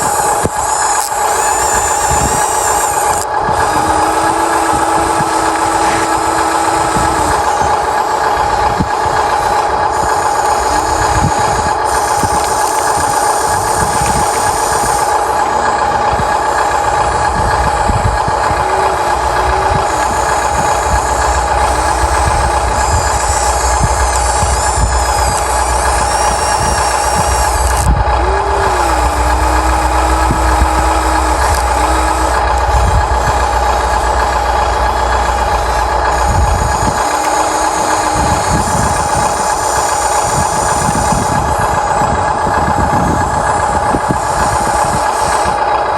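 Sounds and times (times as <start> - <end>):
low rumble: 0.0 - 45.9
toy excavator motor whine: 0.0 - 45.9.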